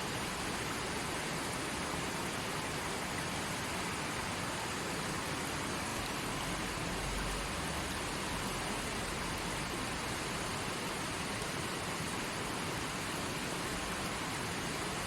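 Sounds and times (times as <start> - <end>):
creek water flowing over rocks: 0.0 - 15.0.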